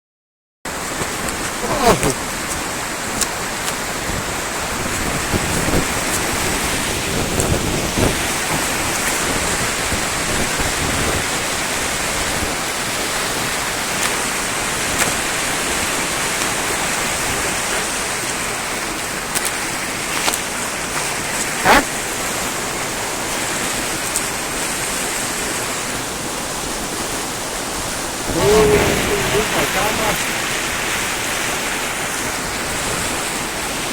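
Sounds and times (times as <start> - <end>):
river water rushing: 0.7 - 33.9.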